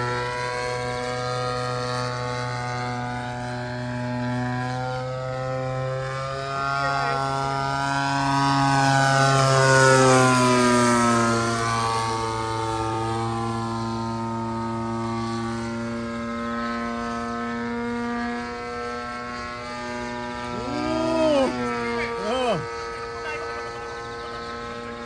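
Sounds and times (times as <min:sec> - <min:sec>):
model airplane engine and propeller: 0:00.0 - 0:25.0.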